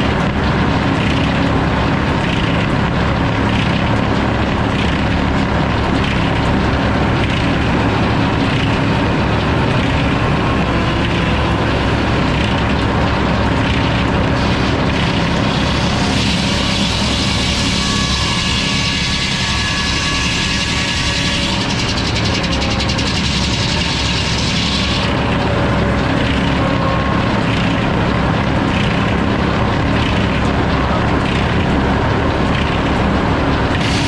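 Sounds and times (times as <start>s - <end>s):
saw cutting through log: 0.0s - 34.0s
sawmill drive drone: 0.0s - 34.0s.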